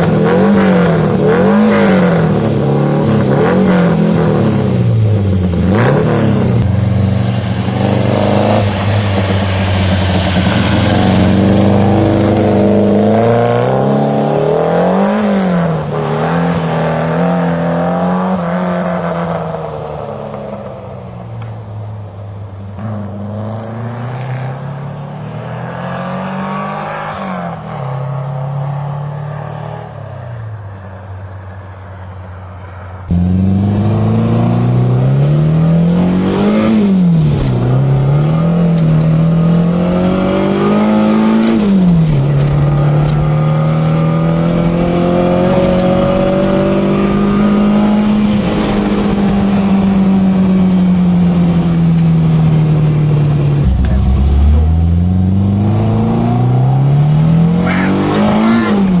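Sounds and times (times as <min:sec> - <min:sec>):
car engine revving: 0:00.0 - 0:30.7, 0:33.1 - 0:59.0.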